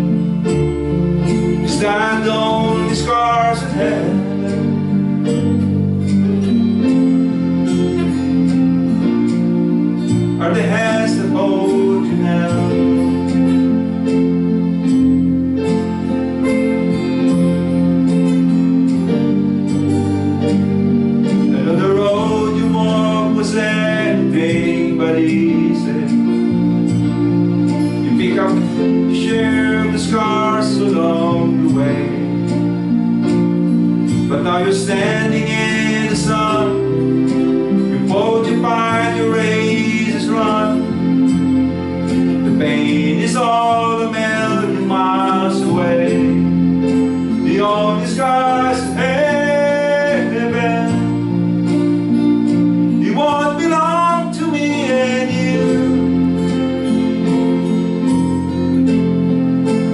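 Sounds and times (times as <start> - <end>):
acoustic guitar: 0.0 - 59.9
electronic keyboard: 0.0 - 59.9.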